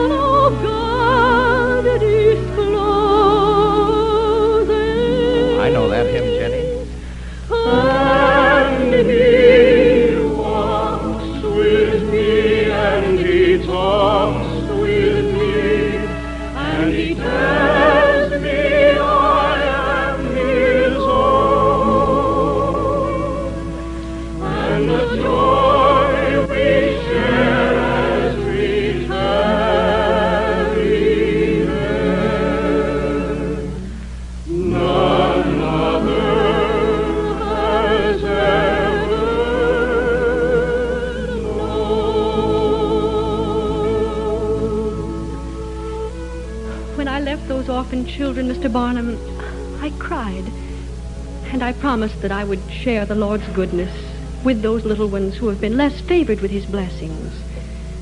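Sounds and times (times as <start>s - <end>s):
operatic soprano singing a hymn: 0.0s - 50.7s, 51.4s - 57.6s
musical accompaniment: 0.0s - 58.0s.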